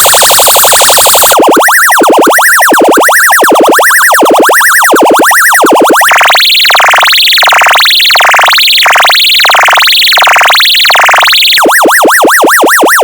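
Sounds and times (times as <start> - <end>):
electronic siren tone: 0.0 - 13.0.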